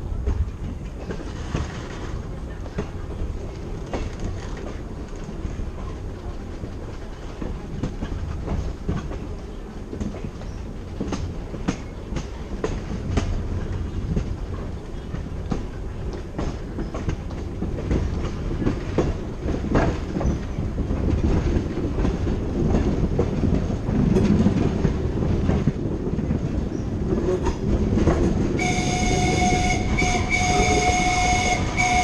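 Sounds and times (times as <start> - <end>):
train car rumbling on track: 0.0 - 32.0
wheels clicking over rail joints: 0.0 - 32.0.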